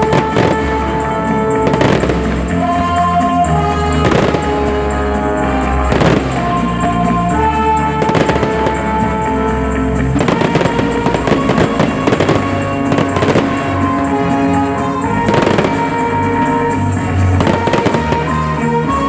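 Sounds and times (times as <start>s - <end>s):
fireworks banging and crackling: 0.0s - 19.0s
music with long held chords: 0.0s - 19.0s.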